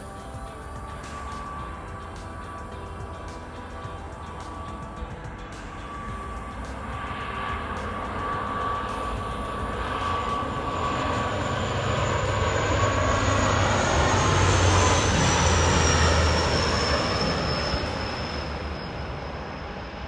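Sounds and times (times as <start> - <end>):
turboprop airliner passing overhead: 0.0 - 20.0.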